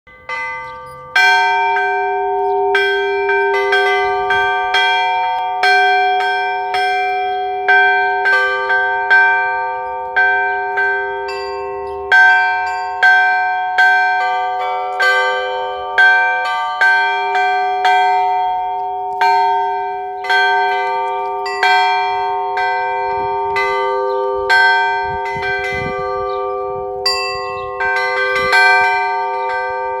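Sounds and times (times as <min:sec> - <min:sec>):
church bells struck by hand: 0:00.1 - 0:30.0
steady deep bell tone: 0:00.1 - 0:30.0.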